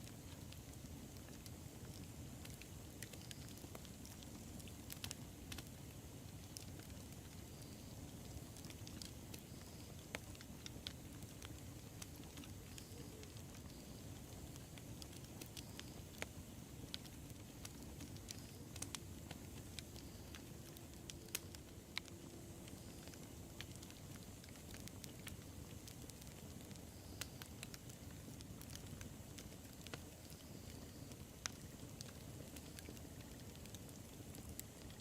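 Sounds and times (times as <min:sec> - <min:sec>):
fire crackles and pops: 0:00.0 - 0:35.0
low rumble of flames: 0:00.0 - 0:35.0.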